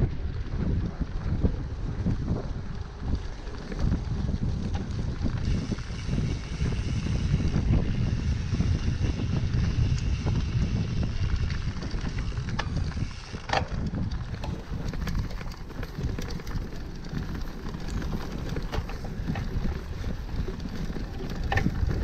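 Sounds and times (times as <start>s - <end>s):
bike rattles and clicks: 0.0s - 22.0s
tyres rumbling on dirt trail: 0.0s - 22.0s
wind rushing over microphone: 0.0s - 22.0s.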